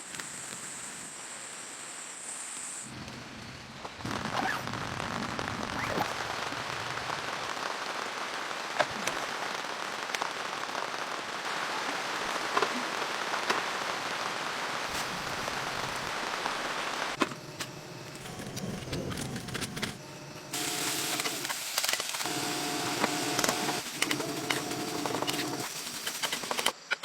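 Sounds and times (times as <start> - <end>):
steady rain falling: 0.0 - 18.3, 19.1 - 26.8.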